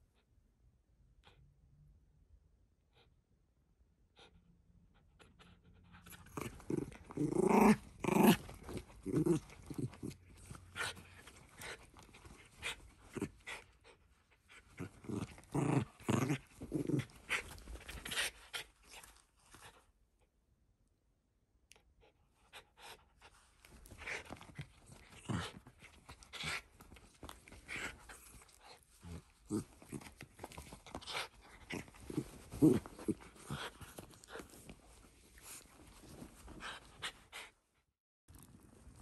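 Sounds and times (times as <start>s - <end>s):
dog play-growling and panting: 4.2s - 20.0s, 21.7s - 39.0s.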